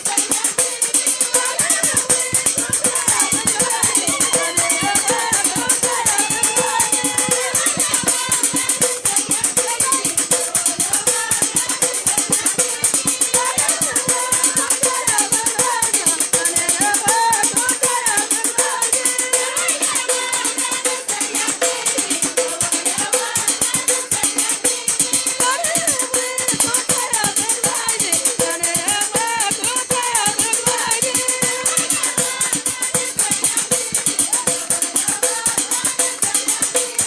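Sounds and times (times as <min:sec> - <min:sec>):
rattling percussion beat: 0:00.0 - 0:37.0
women singing folk song: 0:00.0 - 0:37.0.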